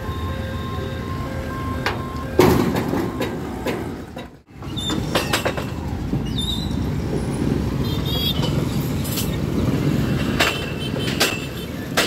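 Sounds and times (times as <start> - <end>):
motorbike and rickshaw engines: 0.0 - 12.0.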